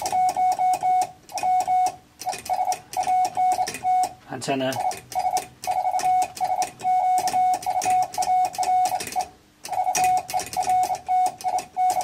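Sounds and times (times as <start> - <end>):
morse code tone: 0.0 - 12.0.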